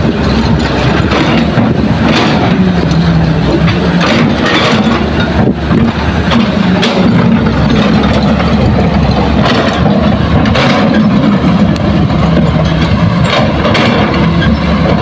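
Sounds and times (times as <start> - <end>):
heavy diesel engine droning: 0.0 - 15.0
knocks and rattles: 0.0 - 15.0.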